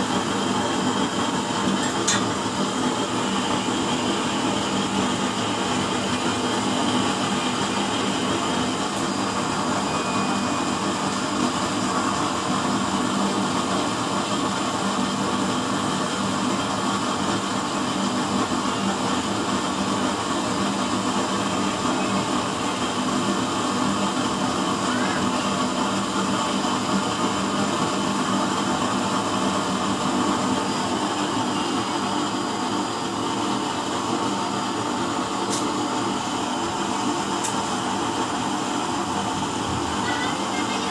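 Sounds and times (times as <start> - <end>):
low mechanical hum: 0.0 - 40.9
stove flame rushing: 0.0 - 40.9.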